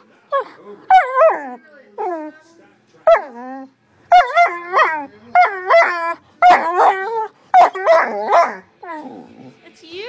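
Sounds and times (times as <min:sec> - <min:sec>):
dog whining: 0:00.3 - 0:02.3, 0:03.1 - 0:09.6.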